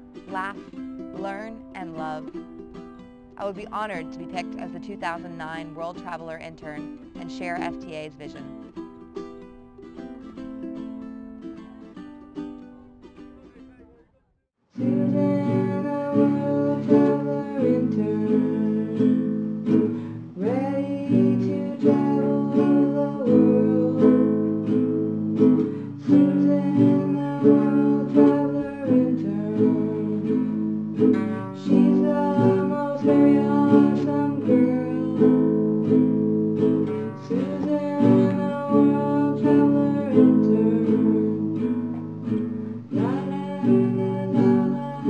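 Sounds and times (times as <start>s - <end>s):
person singing wordless melody: 0.0s - 2.6s, 3.4s - 8.7s, 14.7s - 45.0s
acoustic guitar strumming: 0.0s - 14.1s, 14.7s - 45.0s.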